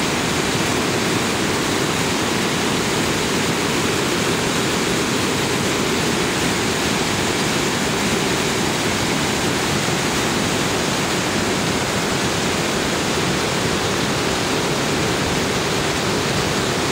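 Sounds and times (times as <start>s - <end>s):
creek rushing over rapids: 0.0s - 16.9s.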